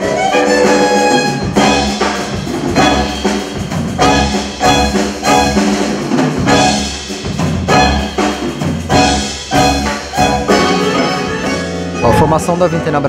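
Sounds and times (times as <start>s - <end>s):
bass line: 0.0s - 13.0s
brass section chords: 0.0s - 13.0s
drums: 0.0s - 13.0s.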